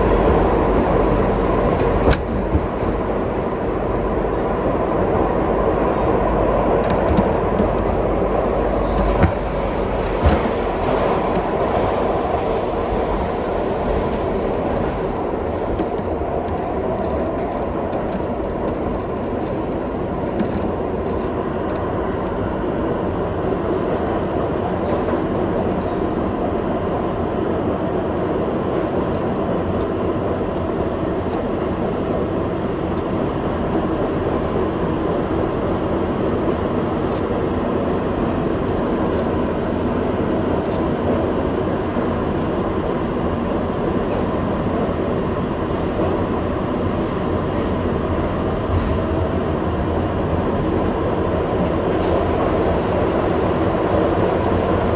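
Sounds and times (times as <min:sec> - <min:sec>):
subway train wheels rumbling: 0:00.0 - 0:54.9.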